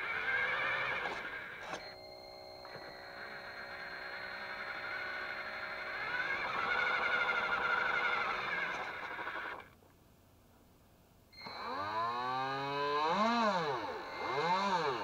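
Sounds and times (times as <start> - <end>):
small electric motor whining: 0.0 - 9.8, 11.4 - 15.0.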